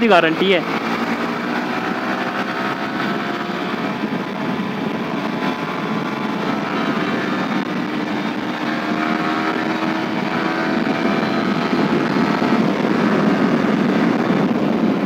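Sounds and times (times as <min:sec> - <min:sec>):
motorcycle engine accelerating: 0:00.0 - 0:15.0
wind and road rush: 0:00.0 - 0:15.0.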